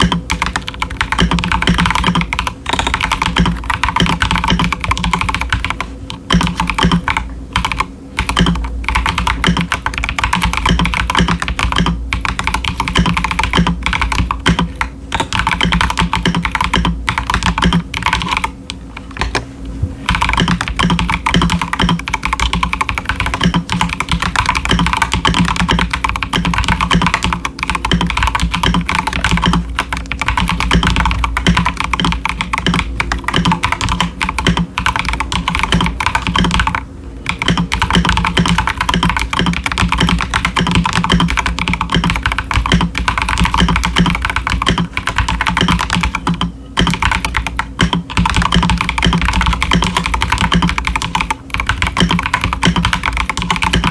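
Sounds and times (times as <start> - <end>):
fast mechanical keyboard typing: 0.0 - 19.4, 20.0 - 53.9.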